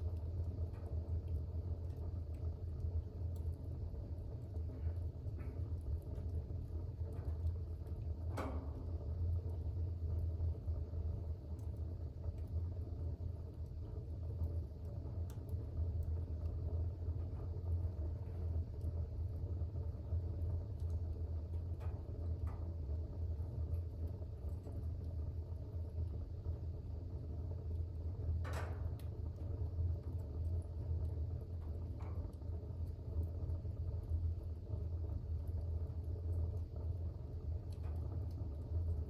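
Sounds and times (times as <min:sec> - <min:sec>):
fire crackles and pops: 0:00.0 - 0:39.0
fire rumbling in fireplace: 0:00.0 - 0:39.0.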